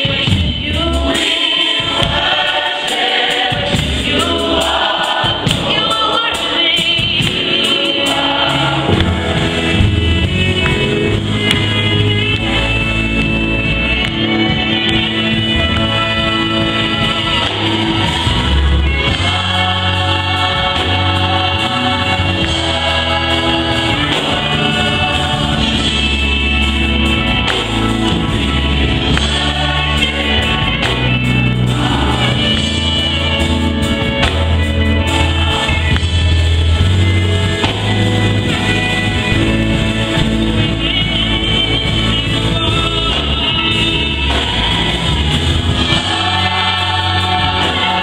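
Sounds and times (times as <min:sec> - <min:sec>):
choir singing in harmony: 0:00.0 - 0:48.0
instrumental backing: 0:00.0 - 0:48.0
deep bass line: 0:08.4 - 0:48.0.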